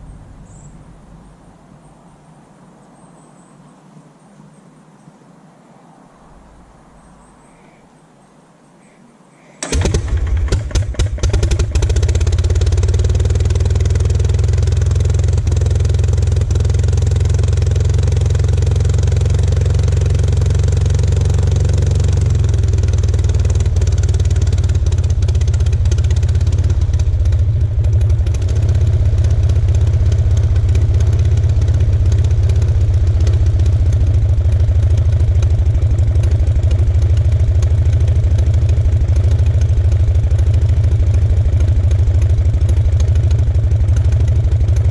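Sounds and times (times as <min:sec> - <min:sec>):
aero engine running: 0:00.0 - 0:01.5, 0:09.6 - 0:44.9.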